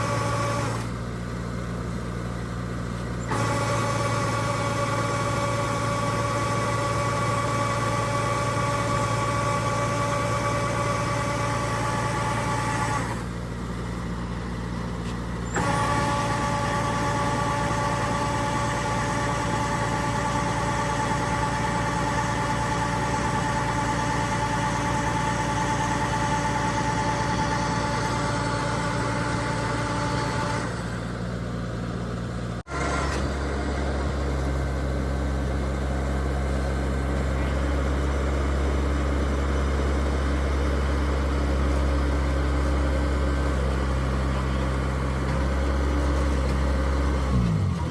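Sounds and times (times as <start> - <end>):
combine harvester engine hum: 0.0 - 47.9
high machinery whine: 3.2 - 47.9.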